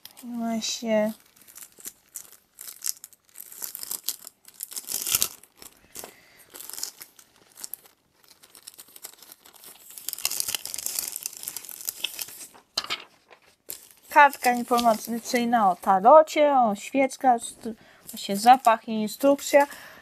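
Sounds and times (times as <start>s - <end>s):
paper rustling and crinkling: 0.9s - 16.0s, 17.5s - 19.9s.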